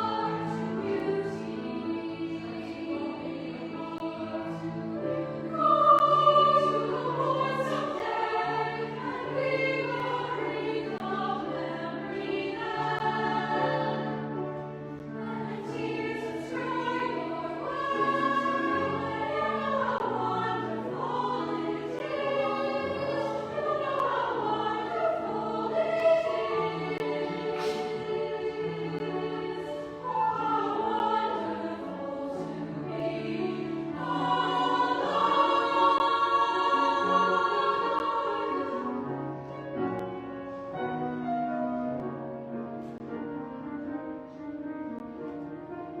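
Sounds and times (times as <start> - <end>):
children's choir singing: 0.0 - 46.0.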